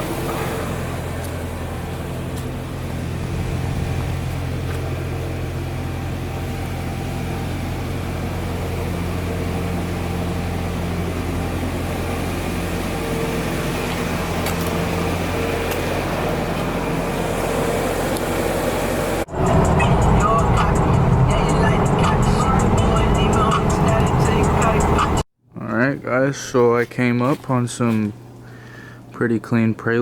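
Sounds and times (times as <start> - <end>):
car engine humming: 0.0 - 25.2.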